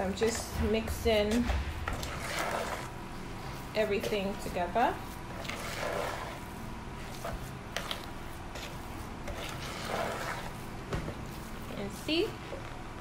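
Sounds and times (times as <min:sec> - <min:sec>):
spatula scraping paste in metal bowl: 0:00.1 - 0:10.7.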